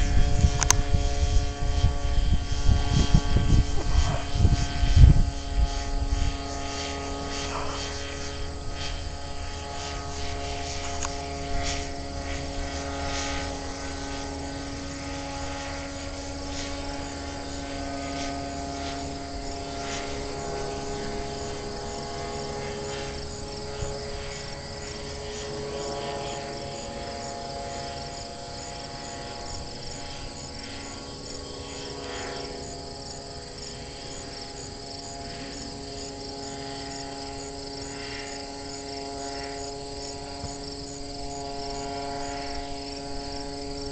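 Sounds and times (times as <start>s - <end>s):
aircraft engine droning overhead: 0.0s - 43.9s
insects chirping: 0.0s - 43.9s.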